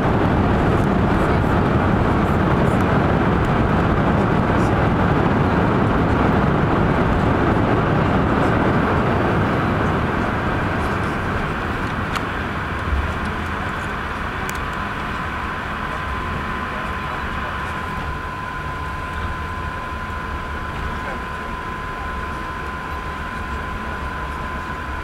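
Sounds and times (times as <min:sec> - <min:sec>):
jet cabin rushing roar: 0:00.0 - 0:25.0.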